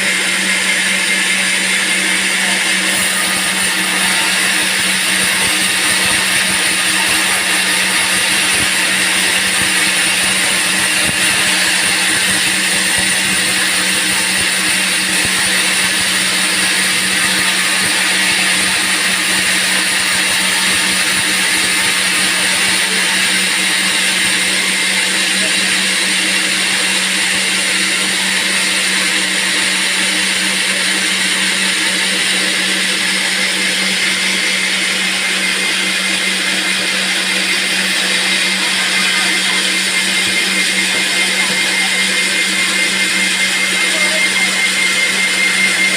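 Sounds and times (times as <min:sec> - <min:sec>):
band saw sawing wood: 0:00.0 - 0:45.9.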